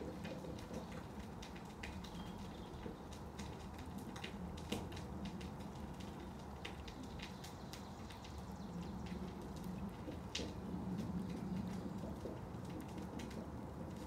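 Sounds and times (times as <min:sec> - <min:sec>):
light clicks and crackles: 0:00.0 - 0:14.0.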